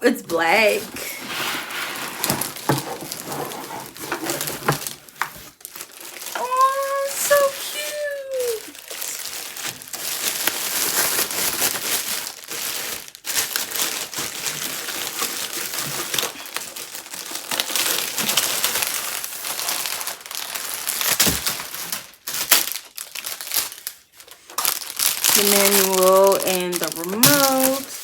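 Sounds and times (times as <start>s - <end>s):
packaging crinkling and rustling: 0.4s - 28.0s.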